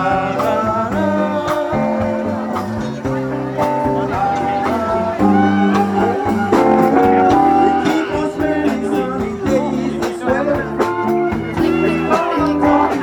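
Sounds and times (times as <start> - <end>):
live band playing guitars: 0.0 - 13.0
person singing: 0.0 - 13.0.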